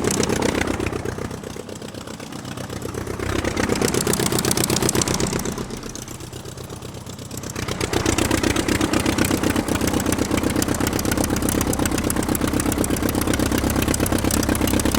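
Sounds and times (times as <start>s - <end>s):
engine running with pulsing beat: 0.0s - 14.9s.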